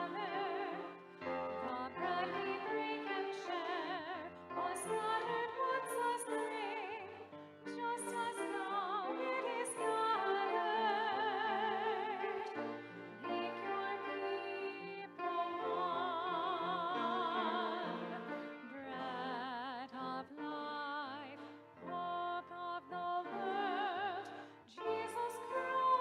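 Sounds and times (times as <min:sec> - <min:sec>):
instrumental accompaniment: 0:00.0 - 0:26.0
person singing a hymn with vibrato: 0:00.0 - 0:26.0.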